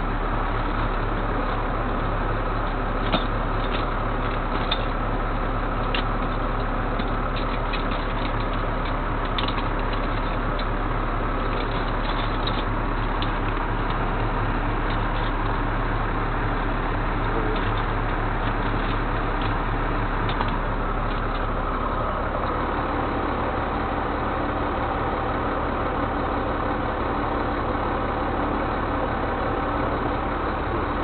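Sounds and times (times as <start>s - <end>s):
truck engine droning: 0.0s - 31.0s
light rattles and clicks: 0.6s - 26.7s.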